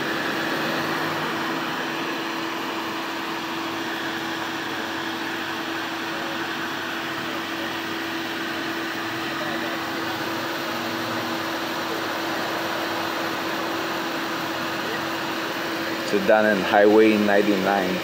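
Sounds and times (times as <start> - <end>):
idling vehicles humming: 0.0 - 18.0.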